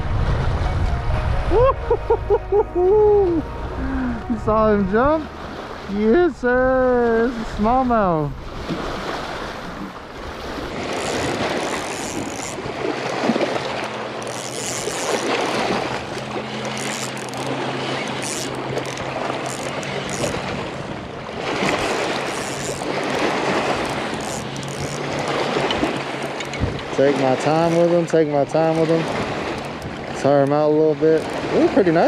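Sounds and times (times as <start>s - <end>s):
wind buffeting microphone: 0.0s - 32.0s
water lapping at shore: 1.6s - 32.0s.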